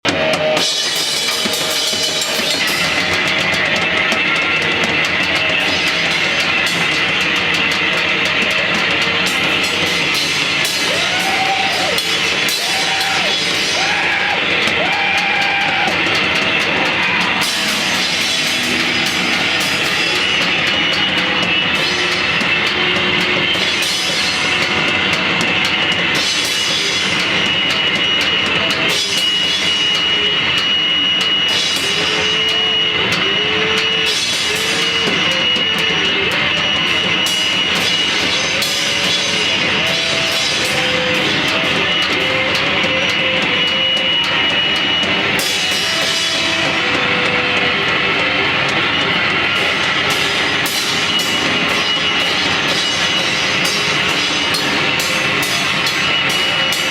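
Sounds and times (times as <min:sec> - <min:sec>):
band playing noise rock: 0:00.0 - 0:56.9
steady high ringing tone: 0:00.1 - 0:56.9.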